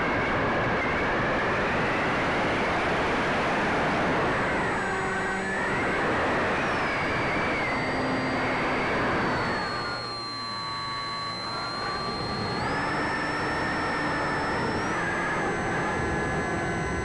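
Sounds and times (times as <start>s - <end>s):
electric motor and propeller whining: 2.2s - 17.0s.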